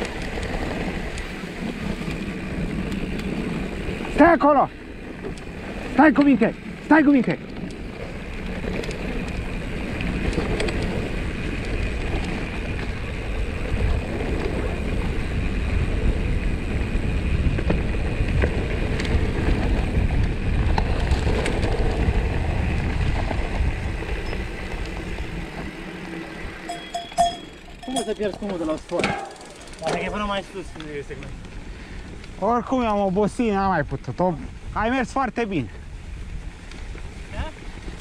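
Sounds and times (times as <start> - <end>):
bike clicks and rattles: 0.0 - 38.0
wind buffeting microphone: 0.0 - 38.0.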